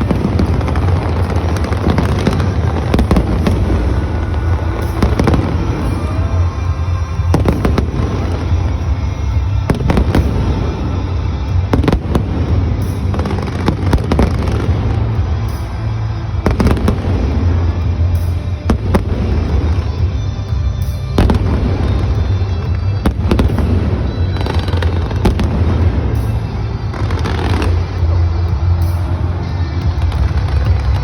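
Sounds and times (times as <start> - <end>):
fireworks bangs: 0.0 - 31.0
loud music: 0.0 - 31.0.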